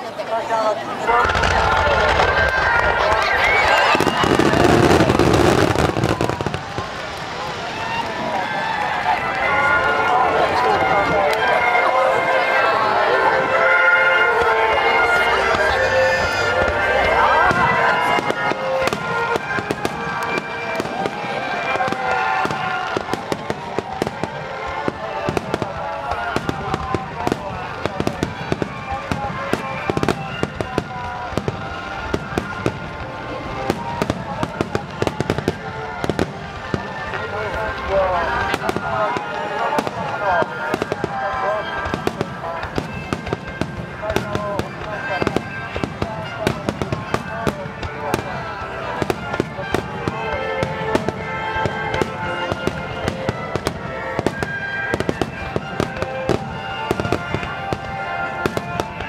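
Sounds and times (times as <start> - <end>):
fireworks bangs and cracks: 0.8 - 59.0.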